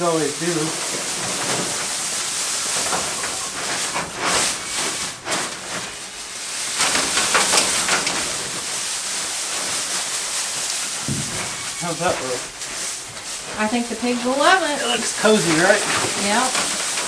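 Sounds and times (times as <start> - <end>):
dry straw rustling and crackling: 0.0 - 17.0.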